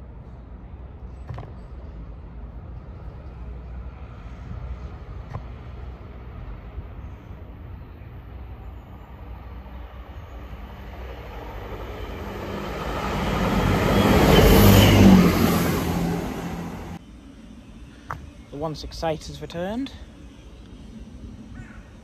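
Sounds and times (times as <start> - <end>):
train engine and wheels passing: 0.0 - 22.0.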